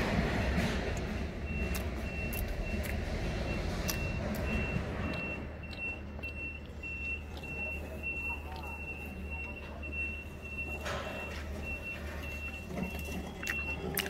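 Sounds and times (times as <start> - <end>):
low engine rumble: 0.0 - 14.0
reversing alarm beeping: 0.9 - 14.0.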